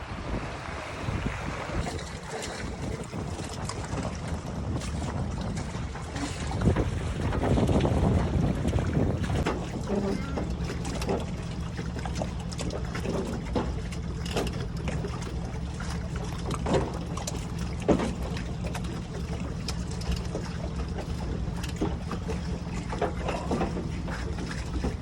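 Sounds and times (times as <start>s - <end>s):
boat engine rumble: 0.0s - 25.0s
knocks and splashes: 0.0s - 25.0s.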